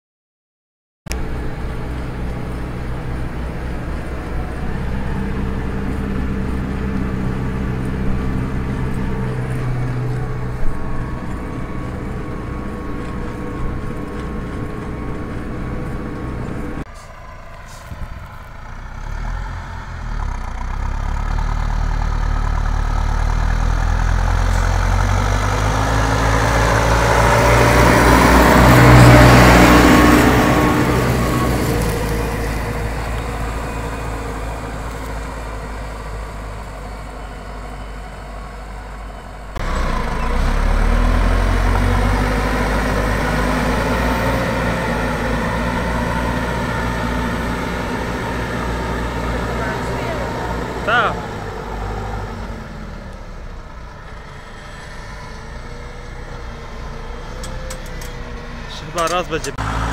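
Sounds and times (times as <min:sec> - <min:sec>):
rush of tyres and soil: 0:01.1 - 0:59.9
tractor diesel engine under load: 0:01.1 - 0:59.9.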